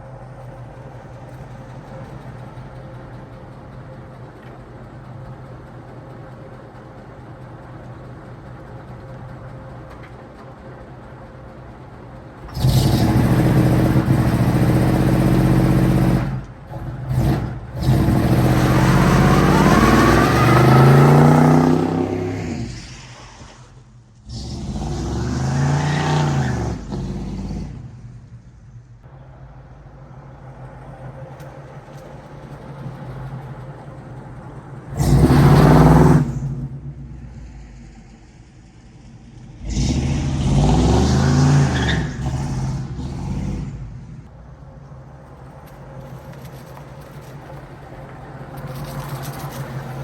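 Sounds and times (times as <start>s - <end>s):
car engine idling and revving: 0.0s - 50.0s.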